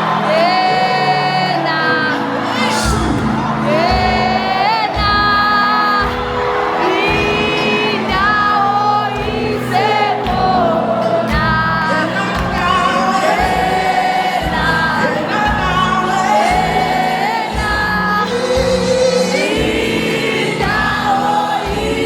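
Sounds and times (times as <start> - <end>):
choir singing: 0.0 - 22.0.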